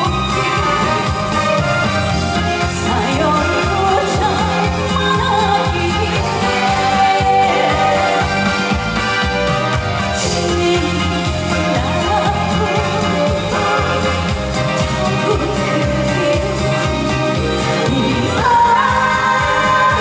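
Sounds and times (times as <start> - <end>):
woman singing: 0.0 - 1.8, 2.4 - 8.7, 10.1 - 20.0.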